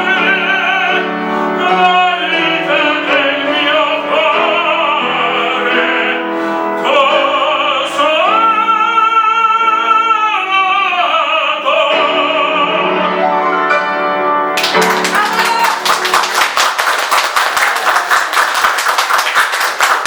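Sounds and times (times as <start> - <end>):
classical singing with vibrato: 0.0 - 16.6
piano accompaniment: 0.0 - 20.0.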